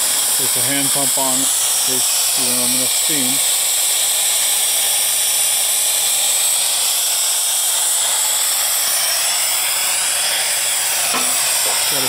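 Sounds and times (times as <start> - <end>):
steam valve hissing: 0.0 - 12.0.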